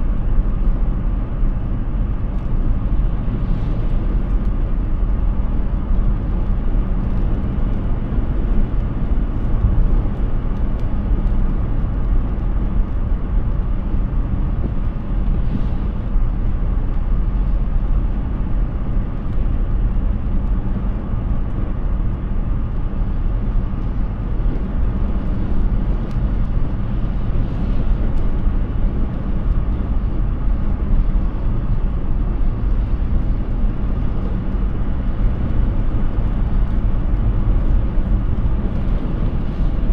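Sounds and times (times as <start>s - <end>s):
tyres rumbling on road: 0.0s - 39.9s
wind noise: 0.0s - 39.9s.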